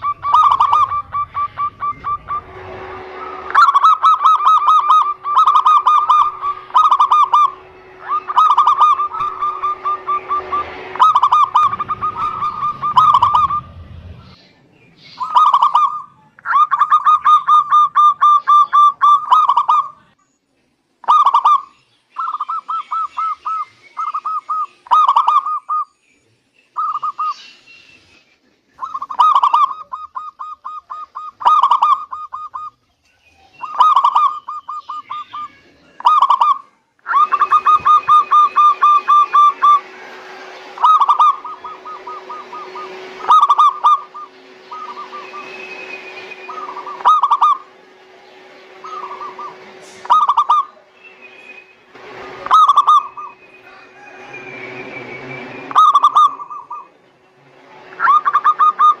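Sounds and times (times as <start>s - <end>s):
doves cooing: 0.0s - 14.3s, 15.2s - 20.0s, 21.0s - 25.8s, 28.8s - 32.8s, 33.6s - 51.2s, 52.0s - 57.0s, 57.9s - 59.0s.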